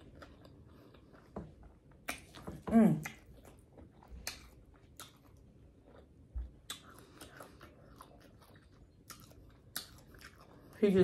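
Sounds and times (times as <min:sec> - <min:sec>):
mouth chewing noodles: 0:00.0 - 0:11.0.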